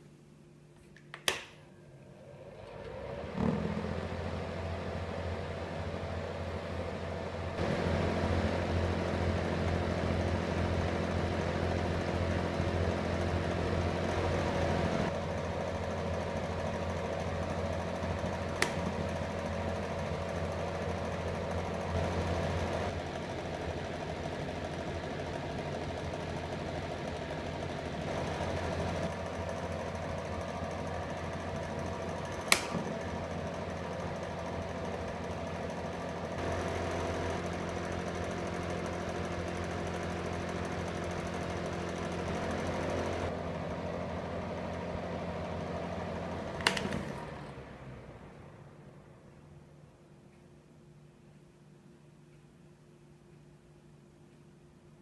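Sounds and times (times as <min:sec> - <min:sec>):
fan heater humming: 0:00.0 - 0:55.0.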